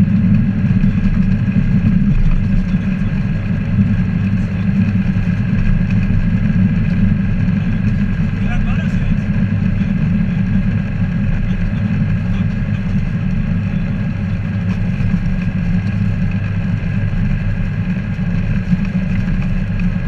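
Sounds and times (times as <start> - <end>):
aircraft engine and propeller idling: 0.0 - 20.0.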